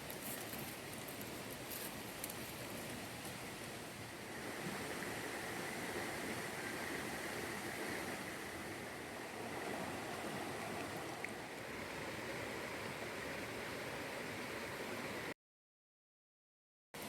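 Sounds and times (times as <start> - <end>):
watery rushing noise: 0.0 - 15.4.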